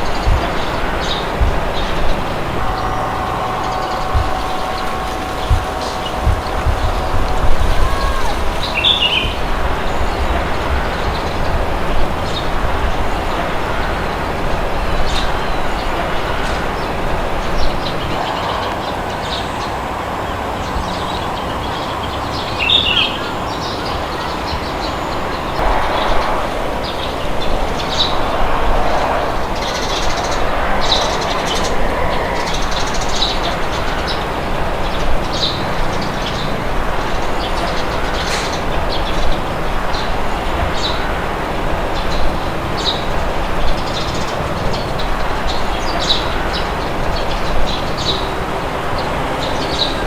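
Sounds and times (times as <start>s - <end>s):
birds chirping: 0.0s - 50.0s
wind blowing with low rumble: 0.0s - 50.0s.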